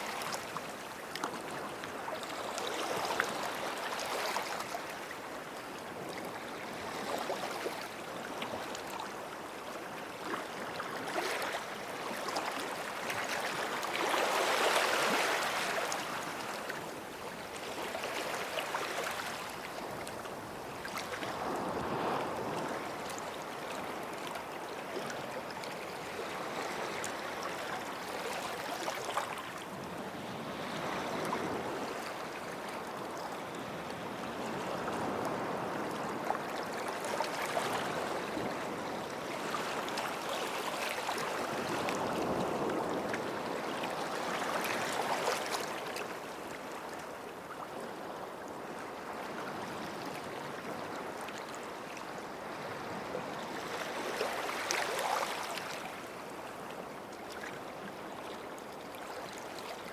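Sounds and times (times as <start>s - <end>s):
small waves washing onto sand: 0.0s - 58.4s.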